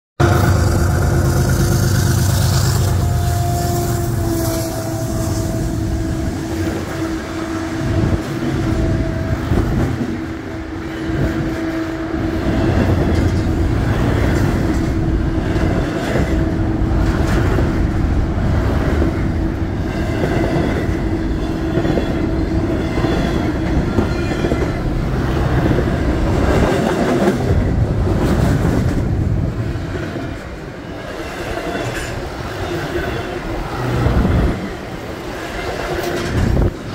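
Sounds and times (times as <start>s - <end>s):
rhythmic wheel clatter on rails: 0.2s - 3.5s, 5.5s - 36.9s
diesel locomotive hum: 0.2s - 36.9s
freight cars rumbling: 0.2s - 36.9s.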